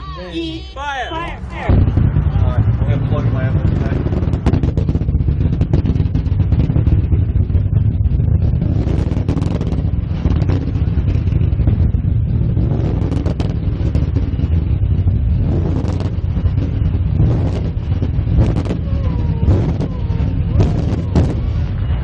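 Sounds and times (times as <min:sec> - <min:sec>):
firework low rumble: 0:00.0 - 0:22.0
firework cracks and bangs: 0:01.6 - 0:22.0.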